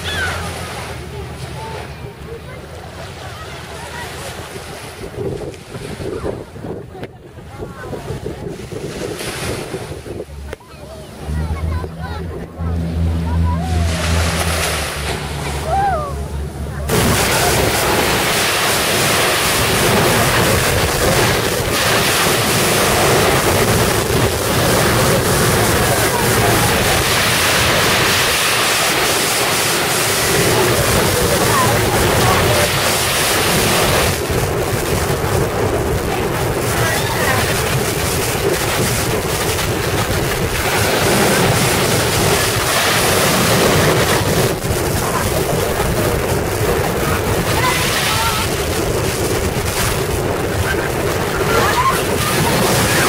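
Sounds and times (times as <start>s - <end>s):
surf washing on beach: 0.0s - 53.0s
wind buffeting microphone: 0.0s - 53.0s.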